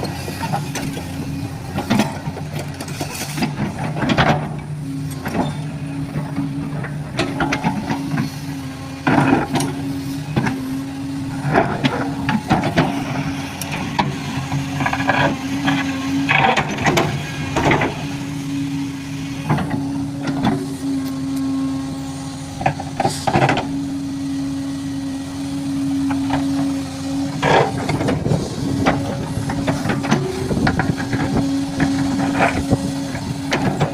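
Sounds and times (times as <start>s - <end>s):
heavy machinery engine humming: 0.0s - 33.9s.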